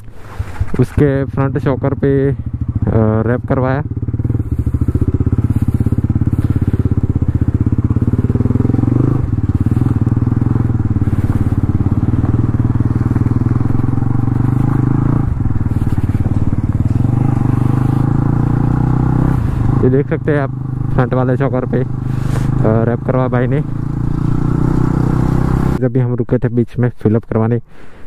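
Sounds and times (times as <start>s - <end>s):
motorcycle engine running: 0.0s - 25.8s.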